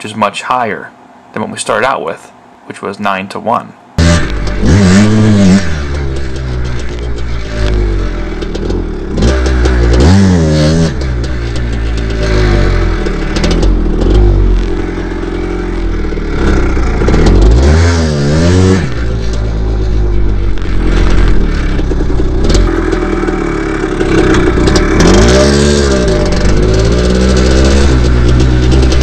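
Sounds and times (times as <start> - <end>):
dirt bike engine revving: 4.0 - 29.0.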